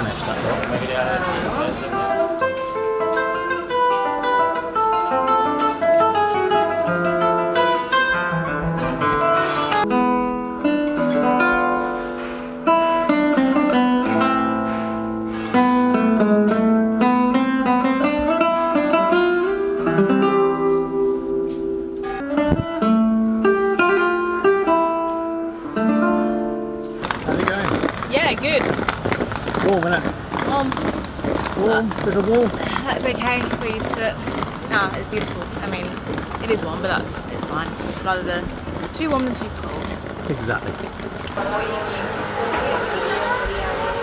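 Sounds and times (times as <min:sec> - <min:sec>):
classical guitar fingerstyle: 0:00.1 - 0:41.4.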